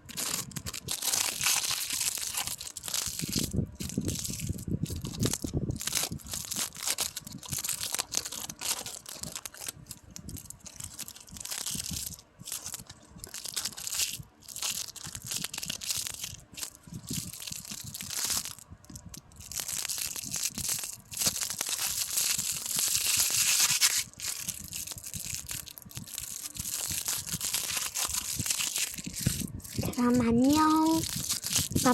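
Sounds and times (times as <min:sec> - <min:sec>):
close-up rustling and crinkling: 0:00.0 - 0:31.9.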